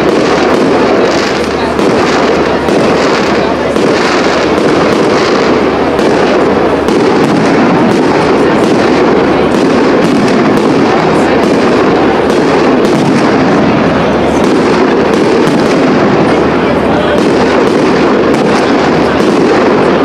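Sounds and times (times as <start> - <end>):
fireworks bursts and crackling: 0.0 - 20.0.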